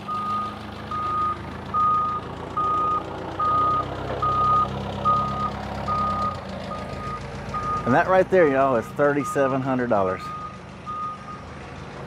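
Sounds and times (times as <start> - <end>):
forklift backup alarm beeping: 0.0 - 8.1, 9.1 - 11.4
forklift engine running: 0.0 - 12.0.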